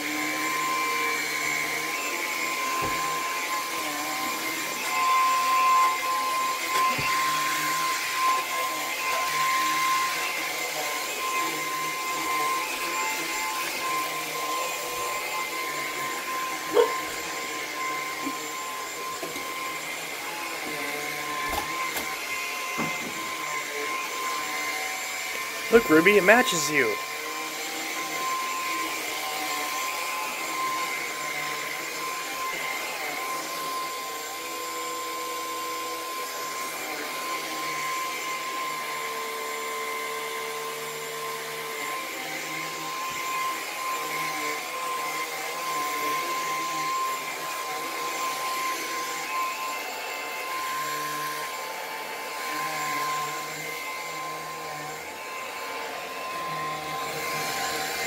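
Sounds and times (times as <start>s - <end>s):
vacuum cleaner running: 0.0s - 25.7s, 27.0s - 58.0s.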